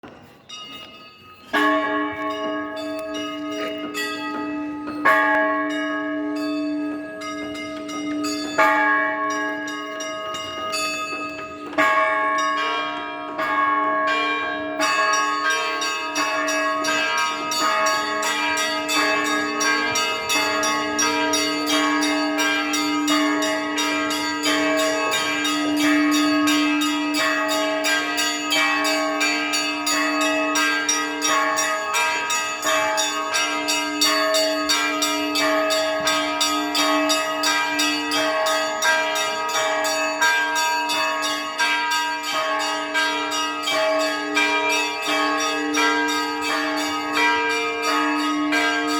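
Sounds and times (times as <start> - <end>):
big bell striking: 0.0 - 48.9
small high bells chiming: 0.1 - 48.9.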